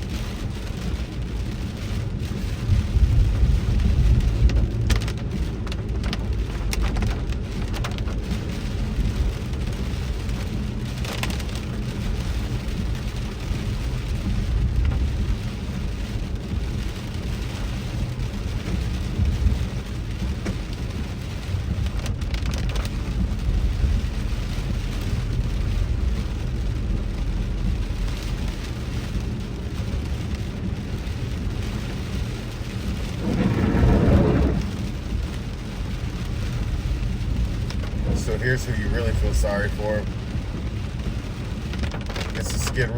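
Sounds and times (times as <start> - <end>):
clicks of raindrops hitting: 0.0 - 42.9
heavy rain on a car: 0.0 - 42.9
low road rumble: 0.0 - 42.9.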